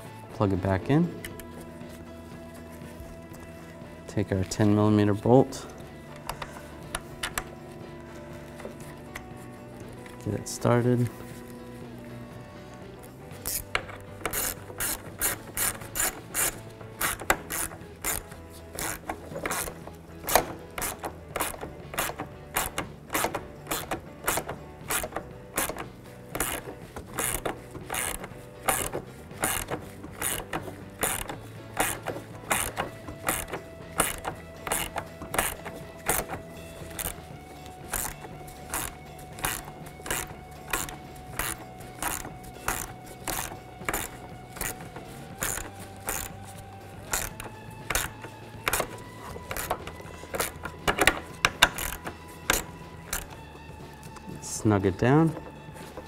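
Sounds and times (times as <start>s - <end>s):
hand ratchet clicking: 5.6s - 10.4s, 13.0s - 54.4s.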